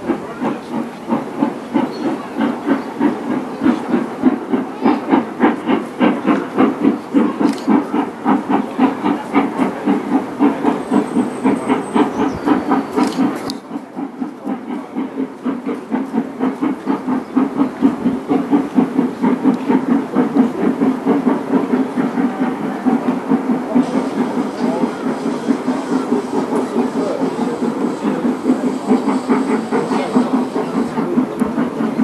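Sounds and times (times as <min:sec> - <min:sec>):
steam locomotive chuffing: 0:00.0 - 0:32.0.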